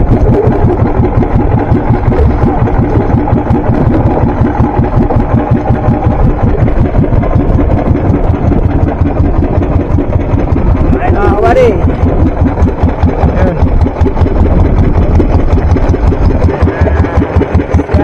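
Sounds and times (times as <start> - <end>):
small boat engine running: 0.0 - 18.0.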